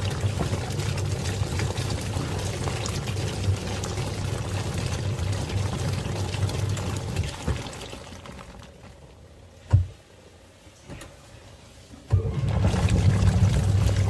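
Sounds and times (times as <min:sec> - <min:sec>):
washing machine churning water: 0:00.0 - 0:14.0.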